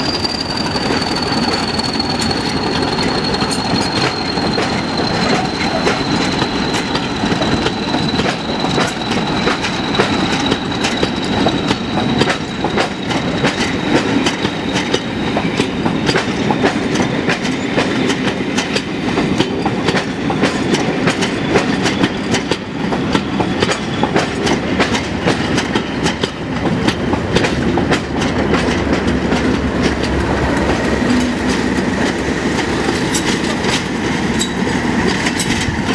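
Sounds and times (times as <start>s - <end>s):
train rumbling: 0.0s - 35.9s
wheels clicking over rail joints: 0.0s - 35.9s.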